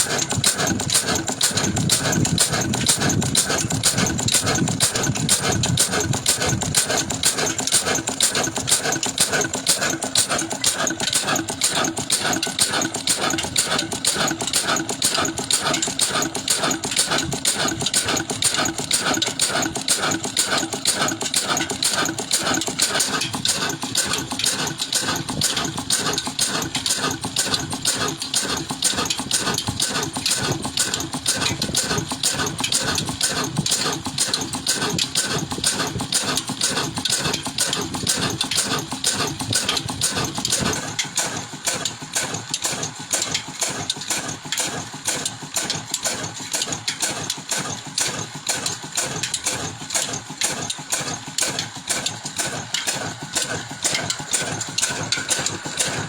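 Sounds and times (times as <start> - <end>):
water pump engine running: 0.0 - 56.0.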